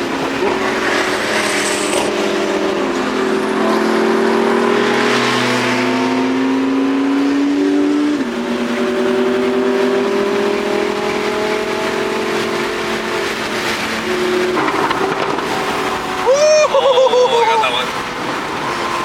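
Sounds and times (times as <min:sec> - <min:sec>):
supercar engine accelerating: 0:00.0 - 0:17.0.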